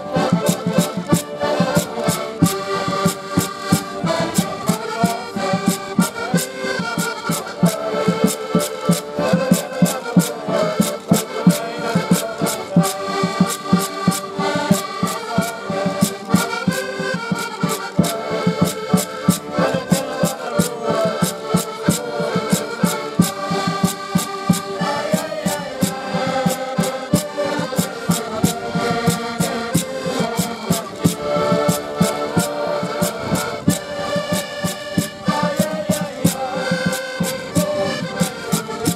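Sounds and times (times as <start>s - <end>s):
accordions playing folk tune: 0.0s - 38.9s
steady clicking beat: 0.0s - 38.9s.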